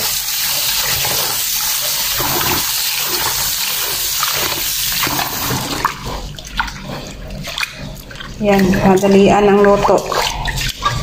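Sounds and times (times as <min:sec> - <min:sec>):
water splashing in pot: 0:00.0 - 0:11.0.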